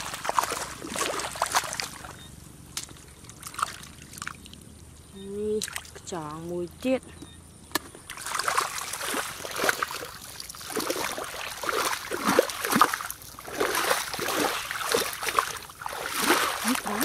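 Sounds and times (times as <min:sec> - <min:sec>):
feet splashing through muddy water: 0:00.0 - 0:04.6, 0:05.4 - 0:06.4, 0:08.1 - 0:17.0.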